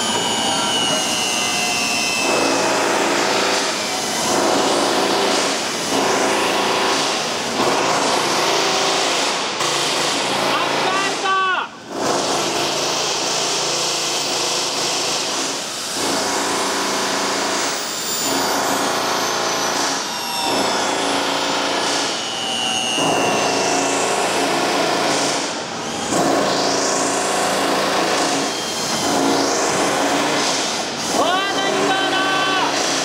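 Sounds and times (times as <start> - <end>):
torque wrench motor drone: 0.0 - 10.9, 11.9 - 33.0.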